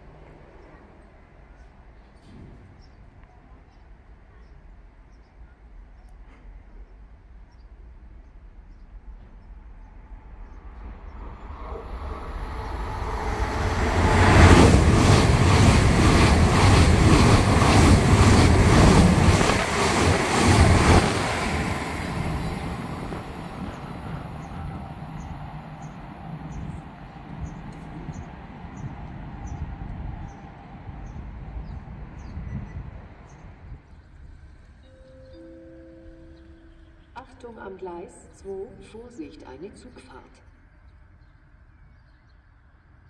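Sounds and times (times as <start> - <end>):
high-speed train passing: 0.0 - 41.8.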